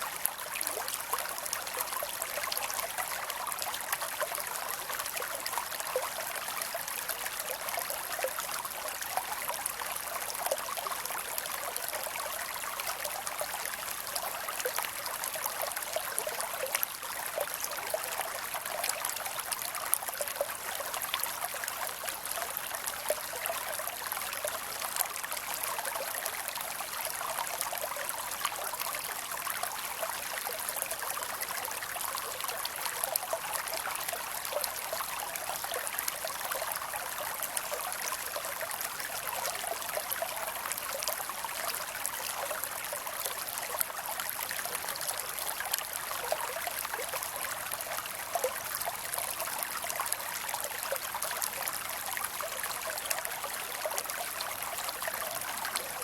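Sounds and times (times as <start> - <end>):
creek running over rocks: 0.0 - 56.0.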